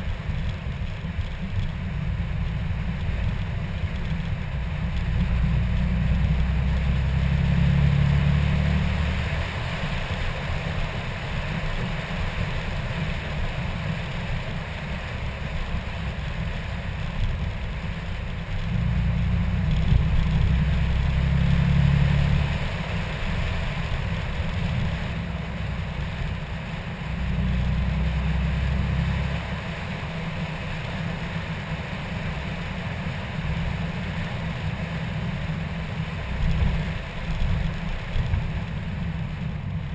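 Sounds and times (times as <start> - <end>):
car engine and wind rumble: 0.0 - 39.9.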